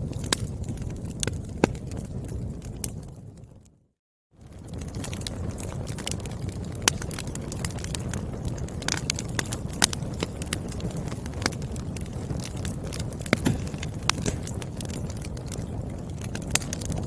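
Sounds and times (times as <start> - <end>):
wood fire crackling: 0.0 - 3.8, 4.4 - 17.0.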